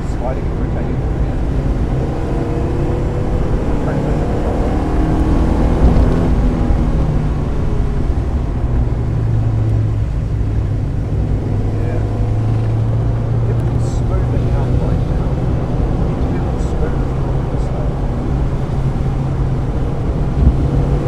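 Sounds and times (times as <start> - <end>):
car engine running: 0.0 - 21.0
low rumble: 0.0 - 21.0.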